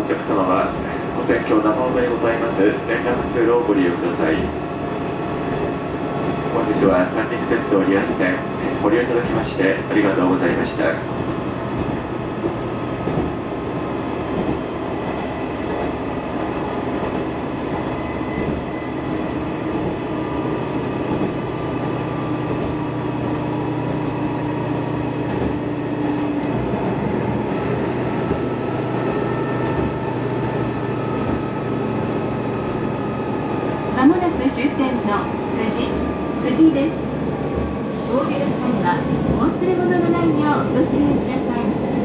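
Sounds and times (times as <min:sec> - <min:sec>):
railcar engine and wheels rumbling: 0:00.0 - 0:42.0.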